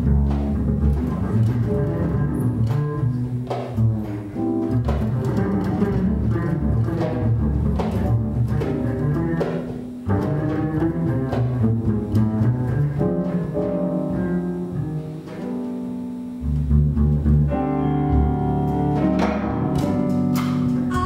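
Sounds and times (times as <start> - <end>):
double bass plucked: 0.0 - 21.0
light jazz accompaniment: 0.0 - 21.0.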